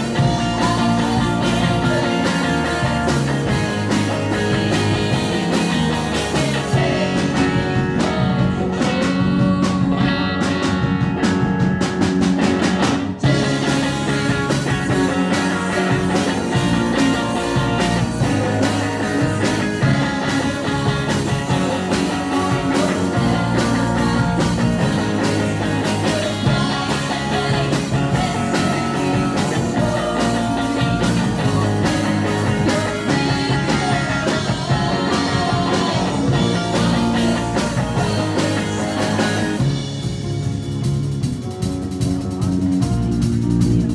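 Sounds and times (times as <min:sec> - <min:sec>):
female lead vocal: 0:00.0 - 0:10.8, 0:13.2 - 0:39.8
live rock band playing: 0:00.0 - 0:43.9.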